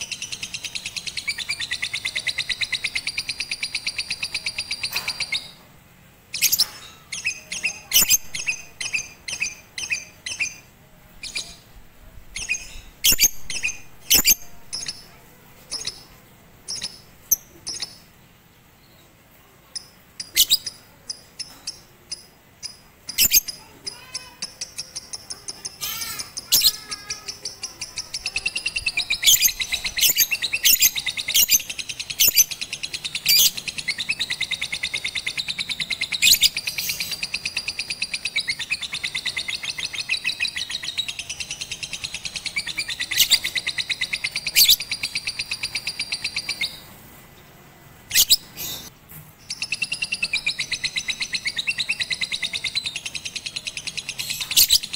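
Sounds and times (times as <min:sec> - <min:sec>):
sharp bird chips: 0:00.0 - 0:05.6, 0:06.3 - 0:11.7, 0:12.3 - 0:18.1, 0:19.7 - 0:46.9, 0:48.1 - 0:54.9
lovebird chirping: 0:00.0 - 0:47.4, 0:48.0 - 0:54.9.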